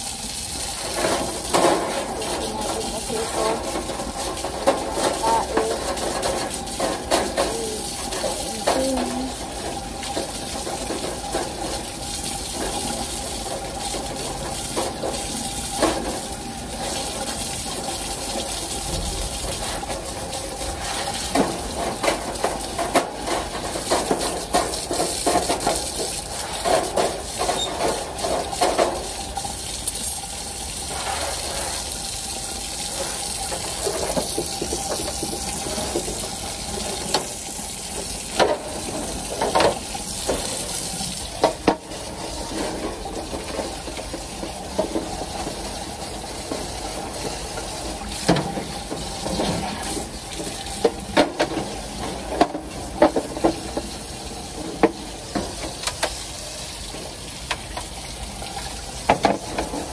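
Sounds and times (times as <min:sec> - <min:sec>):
water running: 0:00.0 - 0:59.9.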